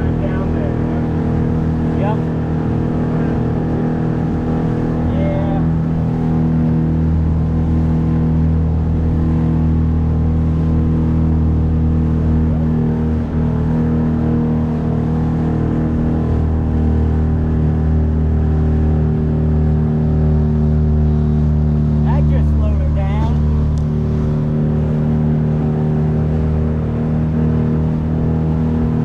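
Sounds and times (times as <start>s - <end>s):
outboard motor running steadily: 0.0s - 29.0s.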